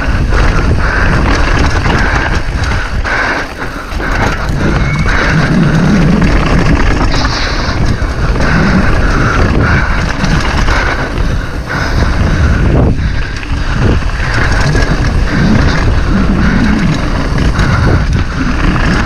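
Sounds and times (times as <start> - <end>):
mountain bike rumbling and rattling: 0.0 - 19.0
wind buffeting microphone: 0.0 - 19.0.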